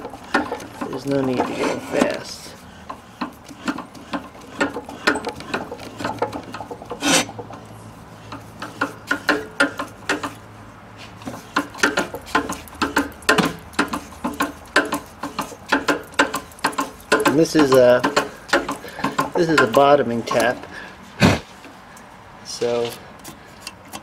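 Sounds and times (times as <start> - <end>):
tap clicking and scraping in metal: 0.0 - 10.4, 11.2 - 20.6, 22.8 - 24.0.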